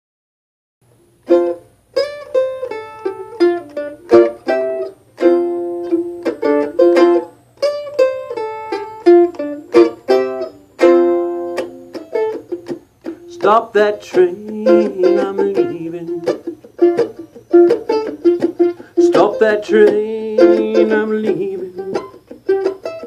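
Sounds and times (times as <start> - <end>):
mandolin picking melody: 1.2 - 23.0.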